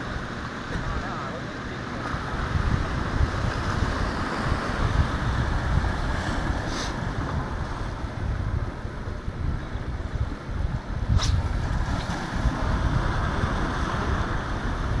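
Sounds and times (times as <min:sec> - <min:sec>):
sea surf against boulders: 0:00.0 - 0:15.0
wind buffeting microphone: 0:00.0 - 0:15.0.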